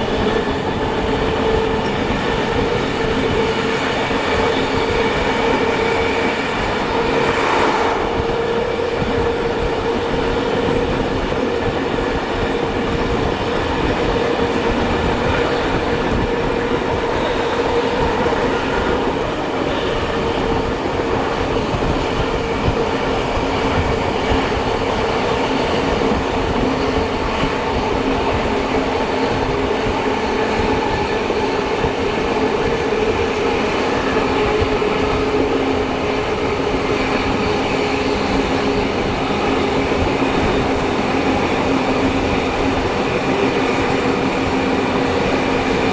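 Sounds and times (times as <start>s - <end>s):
train running on rails: 0.0s - 45.9s.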